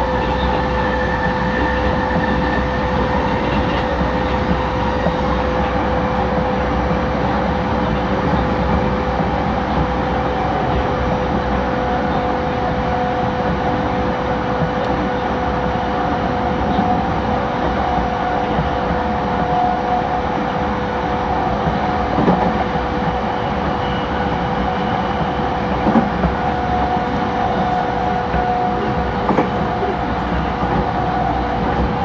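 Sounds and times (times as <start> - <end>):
train equipment humming: 0.0 - 32.0.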